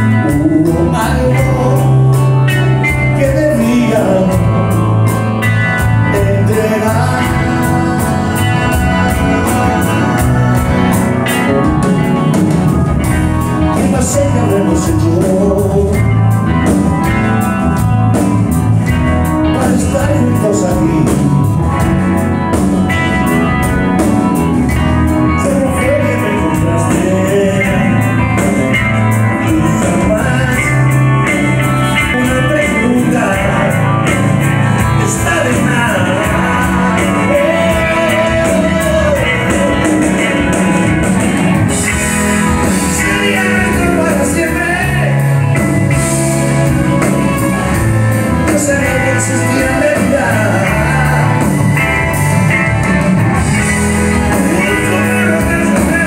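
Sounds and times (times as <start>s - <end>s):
person singing: 0.0s - 12.8s, 13.6s - 18.2s, 19.4s - 22.4s, 25.1s - 56.0s
live rock band playing: 0.0s - 56.0s.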